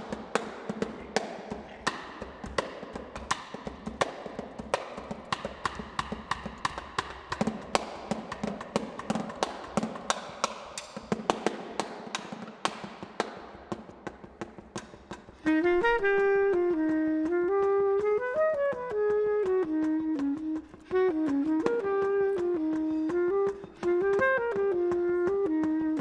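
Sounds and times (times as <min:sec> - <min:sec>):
muffled snare drum strokes: 0:00.0 - 0:26.0.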